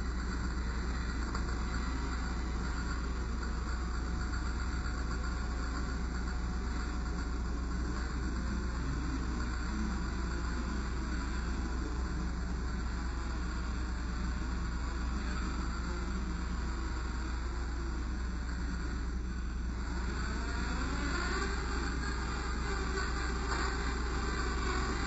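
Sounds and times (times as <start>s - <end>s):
model truck low rumble: 0.0s - 25.0s.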